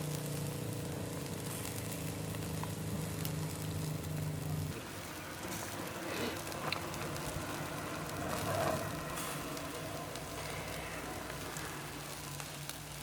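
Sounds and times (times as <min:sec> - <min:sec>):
fire crackling and sizzling: 0:00.0 - 0:13.0.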